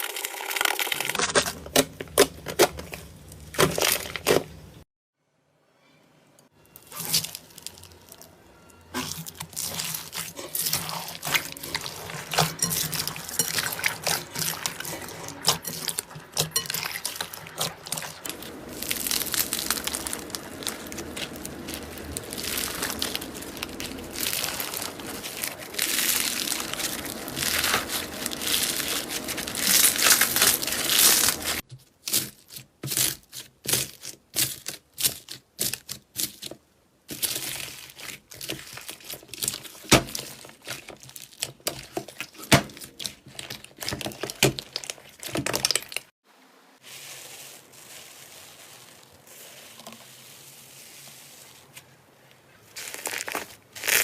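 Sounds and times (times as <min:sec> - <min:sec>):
slime crackling and popping: 0:00.0 - 0:04.6, 0:06.8 - 0:08.3, 0:09.0 - 0:36.5, 0:37.1 - 0:46.1, 0:52.8 - 0:54.0
slime squishes: 0:00.5 - 0:04.7, 0:06.8 - 0:08.3, 0:08.9 - 0:46.1, 0:46.8 - 0:54.0.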